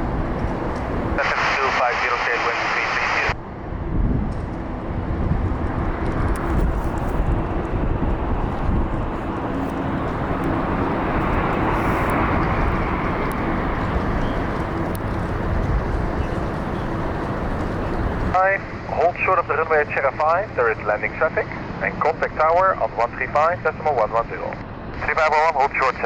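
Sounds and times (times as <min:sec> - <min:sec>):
faint drone: 0:00.0 - 0:26.0
jet engines rushing: 0:00.0 - 0:26.0.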